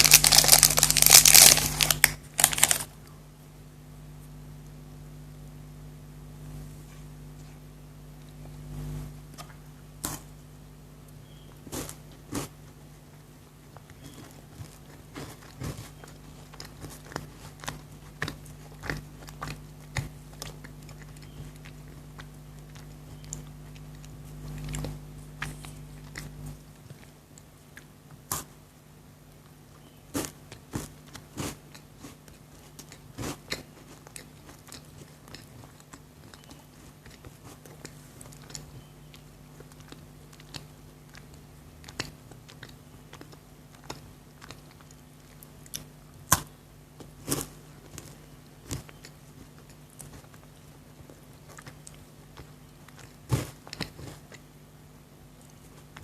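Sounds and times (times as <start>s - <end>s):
chewing chocolate: 0.0s - 3.2s, 11.2s - 28.7s, 29.3s - 56.0s
faint low hum: 0.0s - 56.0s.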